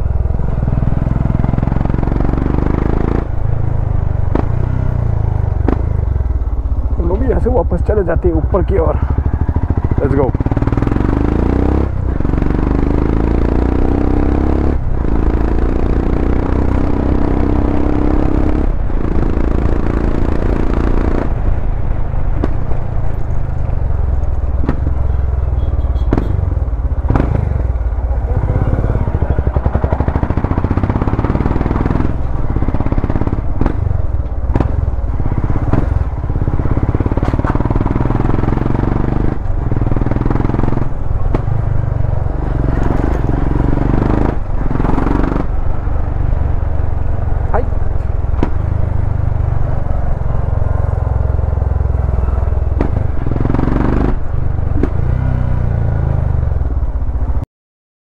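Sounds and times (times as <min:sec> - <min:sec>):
motorcycle engine revving: 0:00.0 - 0:57.4.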